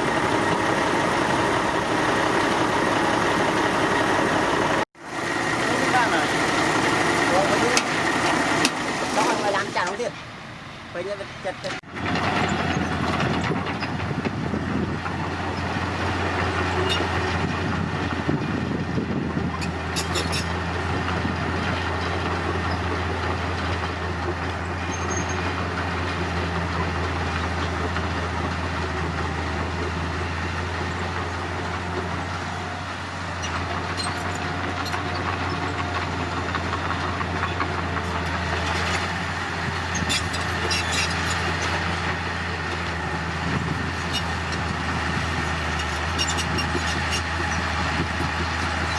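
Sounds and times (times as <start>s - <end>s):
diesel engine drone: 0.0s - 48.9s.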